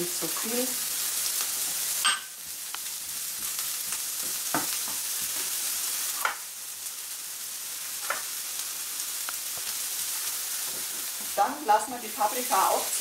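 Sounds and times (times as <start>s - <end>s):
peppers sizzling in a frying pan: 0.0s - 13.0s.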